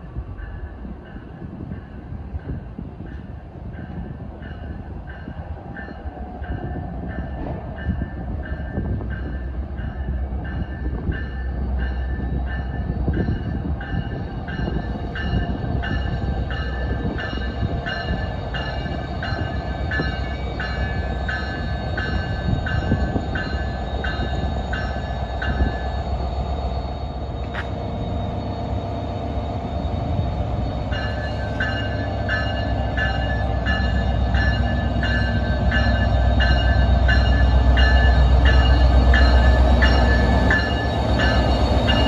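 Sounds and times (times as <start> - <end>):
engine and wheels rumbling: 0.0 - 42.0
locomotive bell ringing: 4.5 - 42.0.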